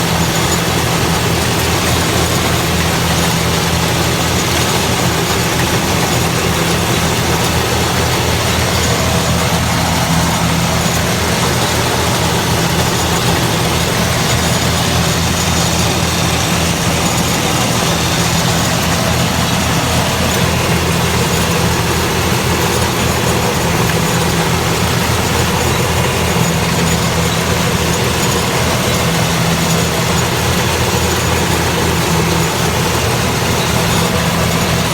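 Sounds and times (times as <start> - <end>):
loud rush of machine noise: 0.0 - 34.9
low engine hum: 0.0 - 34.9.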